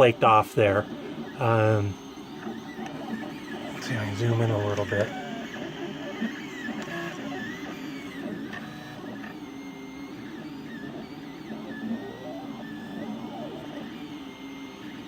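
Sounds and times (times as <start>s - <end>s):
drive wheel grinding filament: 0.6s - 15.0s
stepper motor whining: 0.6s - 15.0s.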